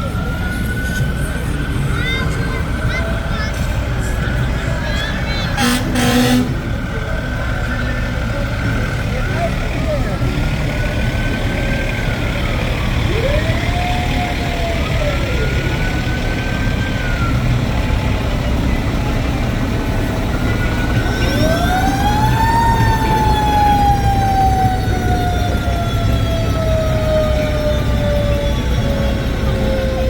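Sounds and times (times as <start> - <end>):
fire truck siren wailing: 0.0 - 30.0
truck engine rumble: 0.0 - 30.0.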